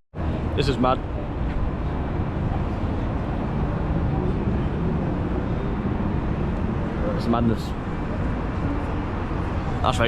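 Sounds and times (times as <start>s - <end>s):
city street traffic rumble: 0.2s - 10.0s.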